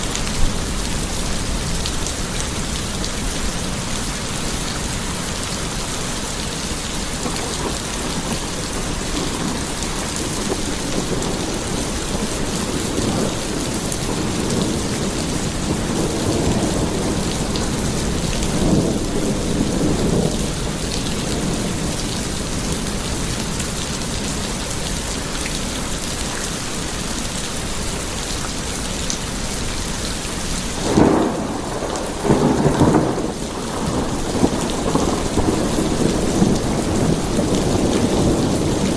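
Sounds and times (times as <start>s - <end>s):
thunder rumbling: 0.0s - 26.1s, 30.7s - 38.9s
steady rain: 0.0s - 38.9s.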